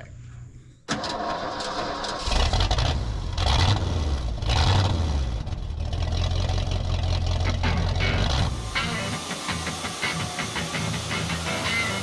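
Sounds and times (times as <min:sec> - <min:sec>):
backhoe engine running: 0:00.9 - 0:12.0.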